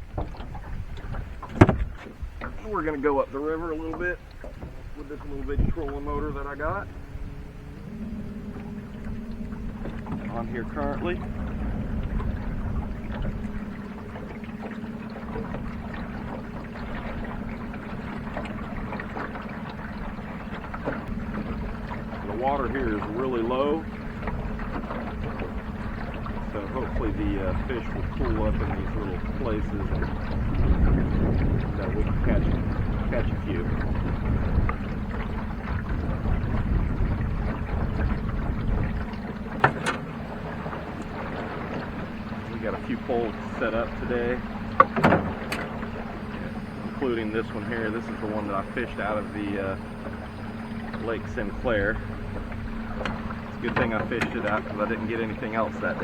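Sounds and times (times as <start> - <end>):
electric boat motor humming: 0.0 - 56.0
water wash: 0.0 - 56.0
wind rumble on microphone: 0.0 - 56.0.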